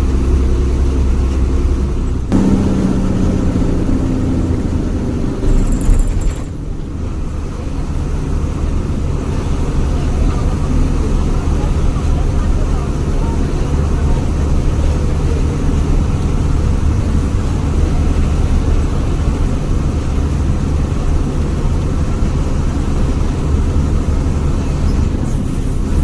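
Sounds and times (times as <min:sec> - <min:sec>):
bus diesel engine drone: 0:00.0 - 0:26.0.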